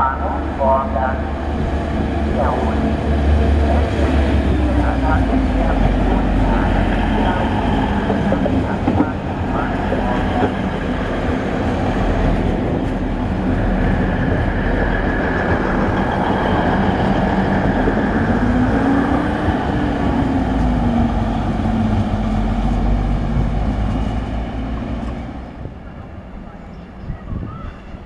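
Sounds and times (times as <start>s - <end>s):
diesel train engines under load: 0.0s - 28.0s
rail noise: 0.0s - 28.0s.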